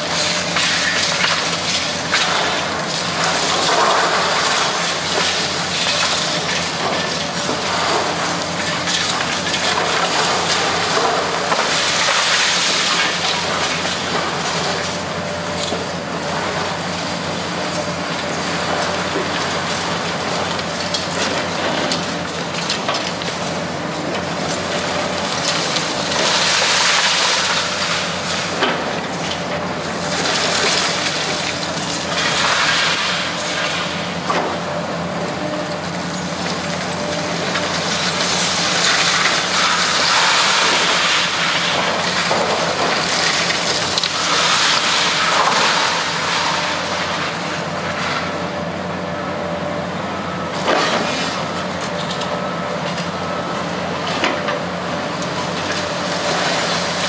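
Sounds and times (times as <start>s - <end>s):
hydraulic grab crushing concrete: 0.0s - 48.4s, 50.5s - 57.0s
excavator engine hum: 0.0s - 57.0s.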